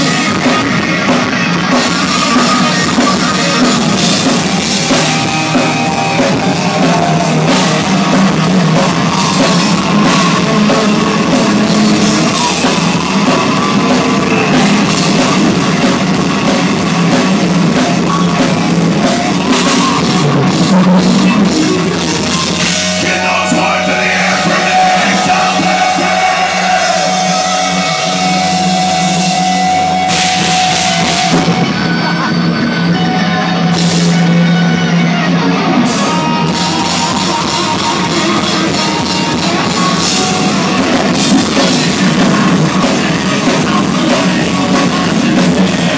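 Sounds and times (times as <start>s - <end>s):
electric guitars: 0.0s - 45.9s
pounding drum kit: 0.0s - 45.9s.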